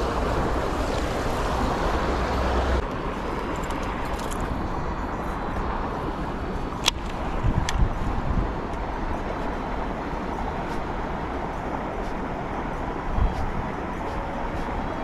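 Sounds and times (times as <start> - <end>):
low buffeting rumbles: 0.0 - 15.0
strong wind rushing: 0.0 - 15.0.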